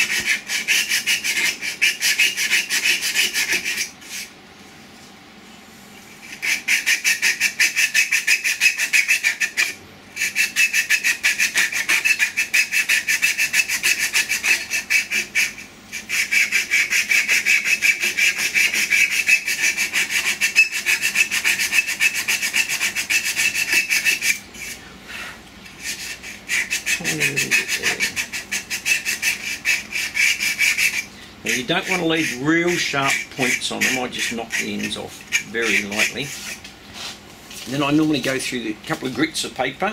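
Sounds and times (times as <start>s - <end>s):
wood rasping against abrasive cloth: 0.0s - 4.3s, 6.2s - 24.8s, 25.7s - 37.2s.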